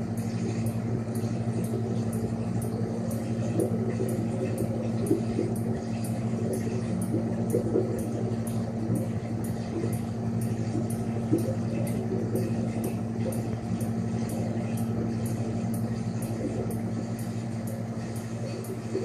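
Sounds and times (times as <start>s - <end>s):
aquarium pumps humming: 0.0s - 19.0s.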